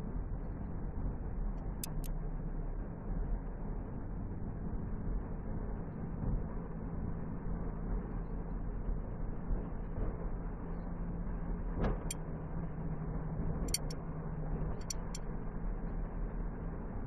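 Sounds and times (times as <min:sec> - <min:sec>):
car engine and road hum: 0:00.0 - 0:17.0.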